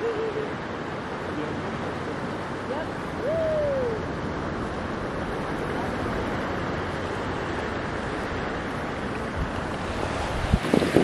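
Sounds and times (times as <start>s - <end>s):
ocean surf: 0.0s - 11.0s
wind blowing across microphone: 0.0s - 11.0s.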